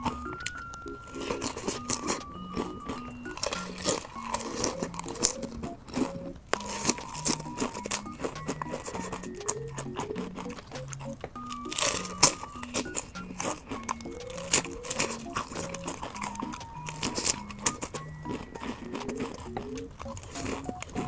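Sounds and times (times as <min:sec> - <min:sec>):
light plinking background music: 0:00.0 - 0:21.0
potato chips crunching: 0:00.0 - 0:21.0.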